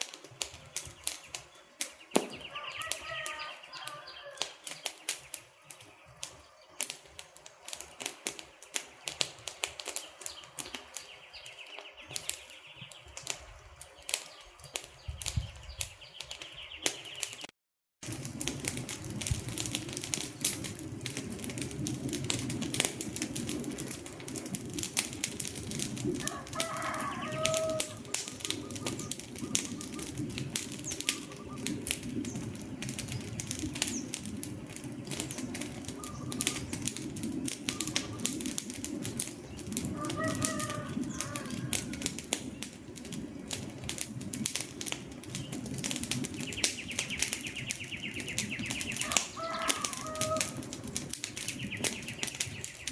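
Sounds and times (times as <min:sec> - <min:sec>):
rush of flames: 0:00.0 - 0:52.9
wood fire crackling: 0:00.0 - 0:52.9.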